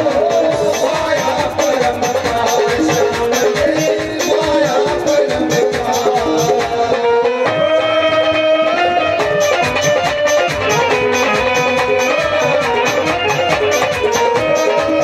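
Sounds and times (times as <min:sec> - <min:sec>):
instrumental folk melody: 0:00.0 - 0:15.0
percussion beat: 0:00.0 - 0:15.0.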